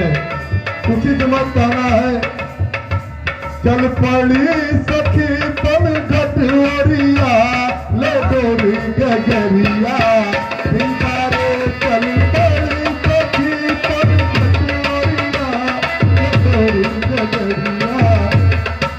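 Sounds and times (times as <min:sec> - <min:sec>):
tabla drumming: 0:00.0 - 0:18.9.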